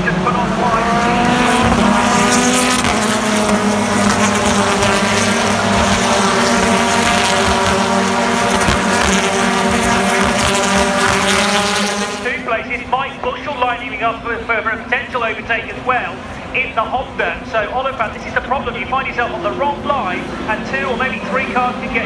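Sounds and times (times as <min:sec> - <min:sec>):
racing car engines droning: 0:00.0 - 0:22.0.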